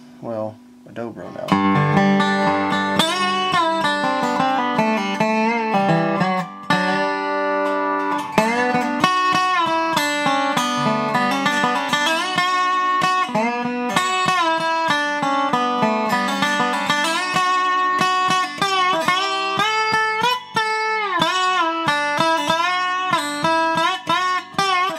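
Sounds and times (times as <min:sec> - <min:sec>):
slide resonator guitar notes: 0:00.2 - 0:24.9.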